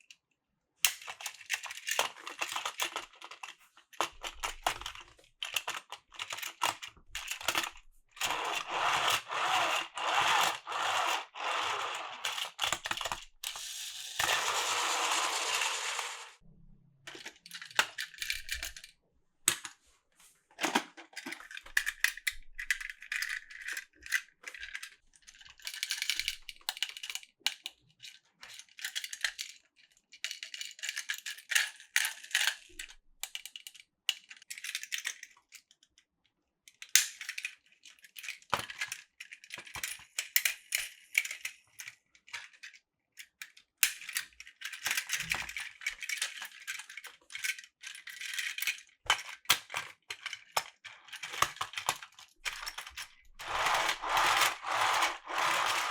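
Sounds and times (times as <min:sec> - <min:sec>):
plastic toy parts clicking: 0:00.9 - 0:16.2, 0:17.1 - 0:18.9, 0:20.6 - 0:29.6, 0:30.2 - 0:36.0, 0:36.7 - 0:55.9.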